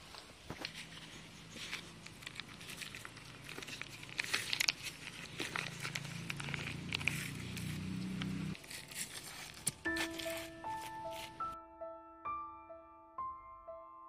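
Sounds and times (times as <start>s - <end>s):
dry leaf crinkling: 0.0s - 11.6s.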